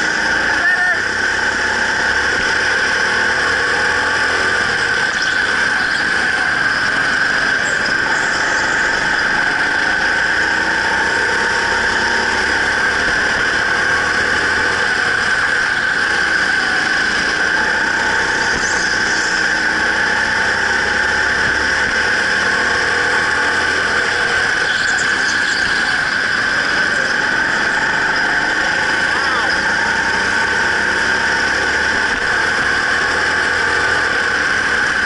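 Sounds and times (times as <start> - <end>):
go-kart engine high whine: 0.0 - 35.0.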